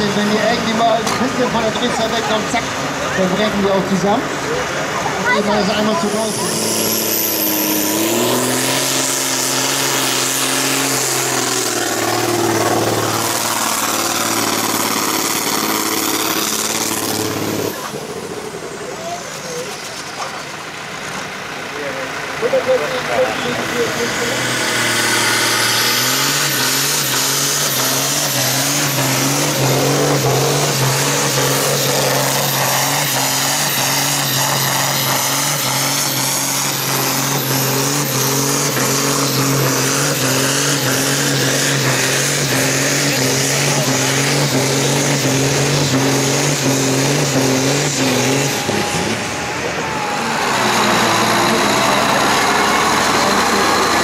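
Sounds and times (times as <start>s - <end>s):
different engine: 0.0s - 54.0s
tractor engine at high revs: 0.0s - 54.0s.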